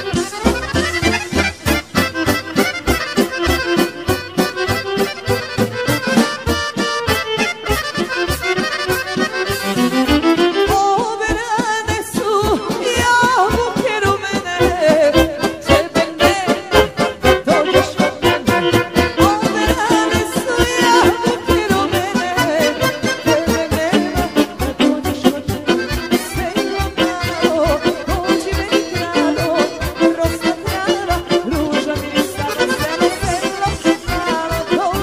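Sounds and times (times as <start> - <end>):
folk music with accordion: 0.0 - 35.0.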